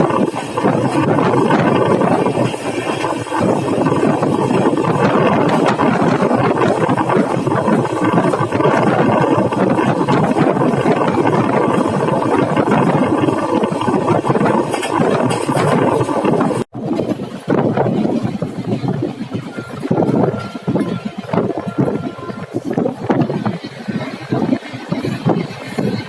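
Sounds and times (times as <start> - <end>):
rushing air: 0.0 - 26.0
train wheels on rails: 0.0 - 26.0.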